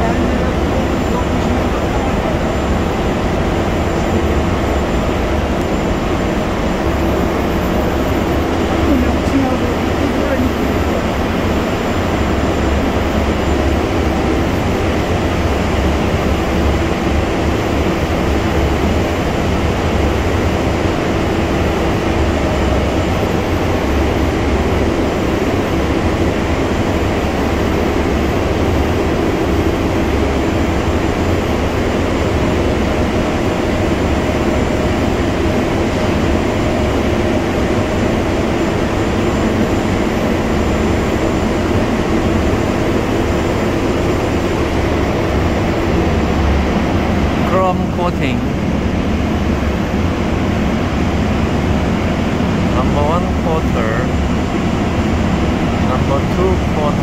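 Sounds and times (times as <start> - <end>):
factory machinery din: 0.0 - 57.0.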